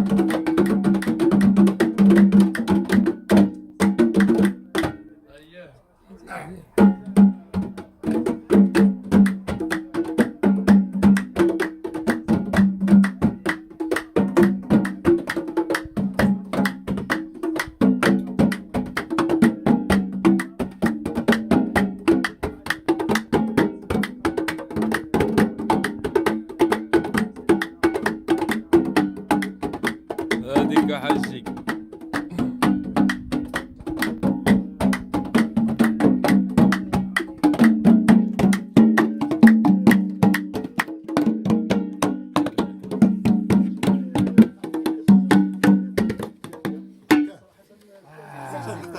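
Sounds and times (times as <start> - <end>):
fast hand percussion: 0.0 - 5.1, 6.3 - 47.4.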